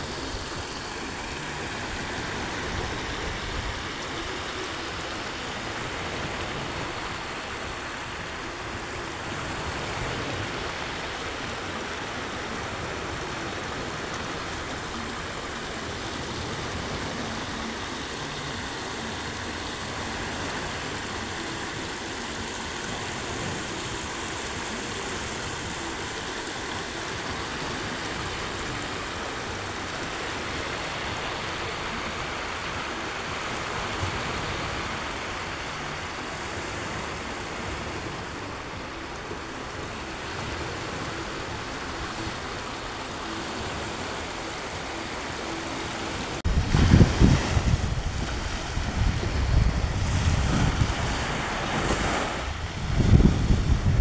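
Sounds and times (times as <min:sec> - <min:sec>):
water rushing down cascade fountain: 0:00.0 - 0:54.0.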